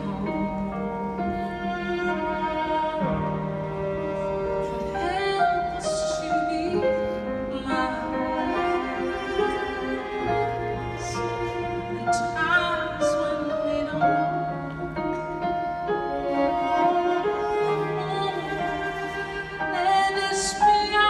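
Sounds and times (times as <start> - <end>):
symphony orchestra with strings: 0.0 - 21.0
woman singing operatic ballad: 0.0 - 21.0.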